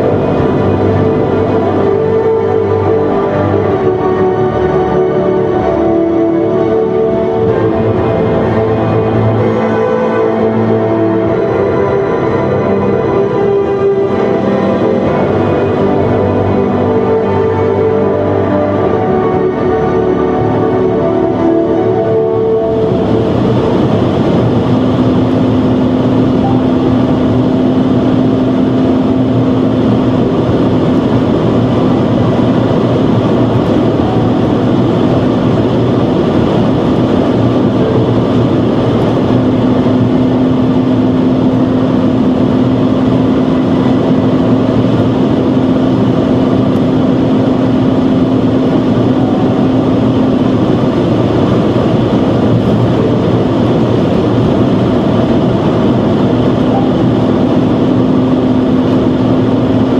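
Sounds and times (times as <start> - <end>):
car engine droning: 0.0 - 59.9
wind and tyre noise: 0.0 - 59.9.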